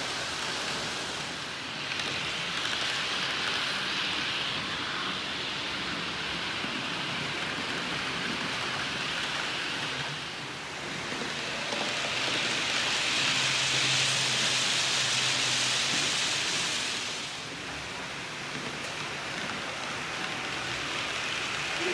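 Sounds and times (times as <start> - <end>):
model train wheels on rails: 0.0 - 21.9.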